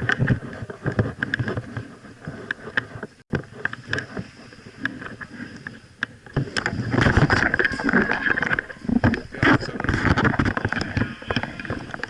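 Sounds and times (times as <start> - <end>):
clothing and kit rustling: 0.0 - 12.0.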